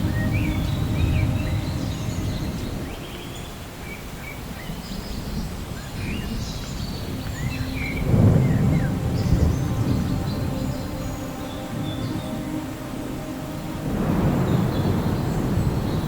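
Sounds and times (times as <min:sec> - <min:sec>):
birds chirping: 0:00.0 - 0:16.0
steady rain: 0:00.0 - 0:16.0
thunder rumbling: 0:00.0 - 0:16.0.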